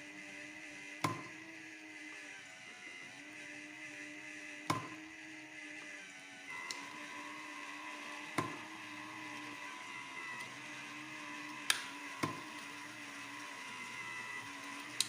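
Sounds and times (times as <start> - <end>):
electric gear motor whirring: 0.0 - 15.0.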